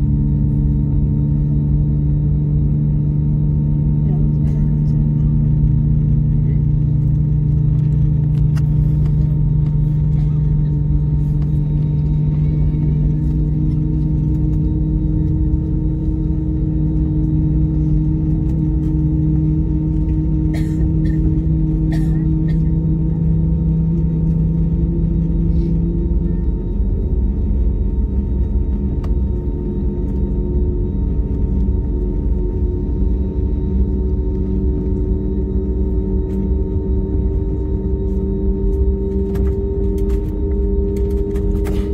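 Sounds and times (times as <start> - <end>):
jet engines humming in cabin: 0.0 - 41.9.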